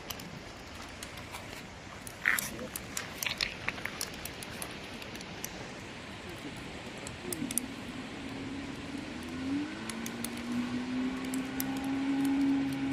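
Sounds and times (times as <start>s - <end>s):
faint scattered clicks: 0.0s - 10.6s, 11.2s - 12.9s
background hiss: 0.0s - 12.9s.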